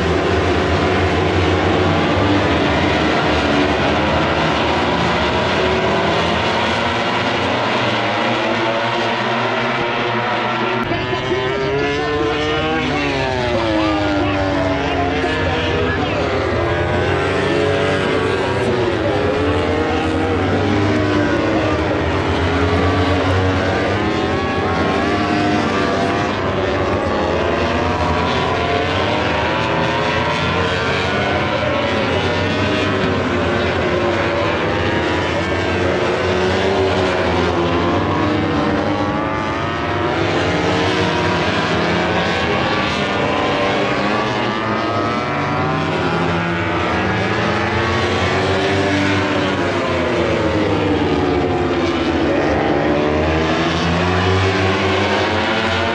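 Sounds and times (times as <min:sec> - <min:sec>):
racing motorcycle engines: 0:00.0 - 0:55.9.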